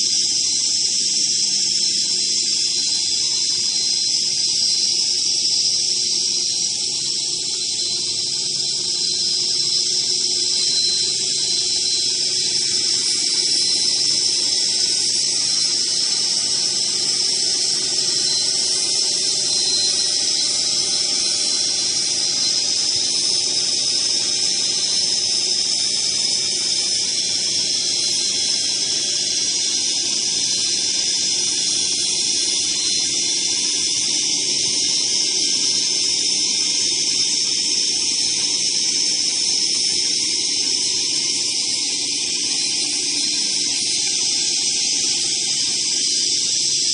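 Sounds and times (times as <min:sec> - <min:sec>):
saw machine high-pitched hiss: 0:00.0 - 0:46.9.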